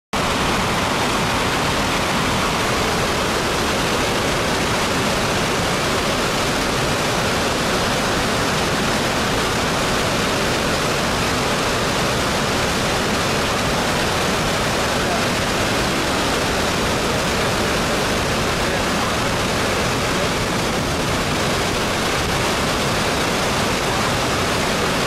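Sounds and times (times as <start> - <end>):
water pouring over a weir: 0.2 - 25.0.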